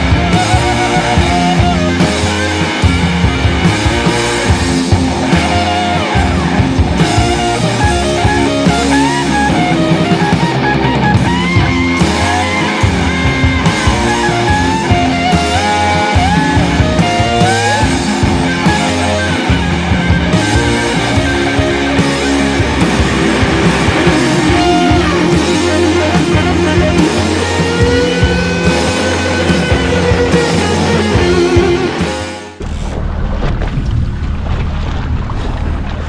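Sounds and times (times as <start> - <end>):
rock music with electric guitar: 0.0 - 32.9.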